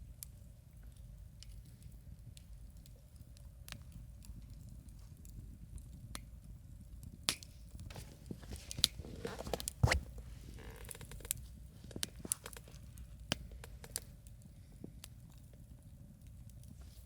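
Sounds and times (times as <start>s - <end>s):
campfire crackling: 0.1s - 17.0s.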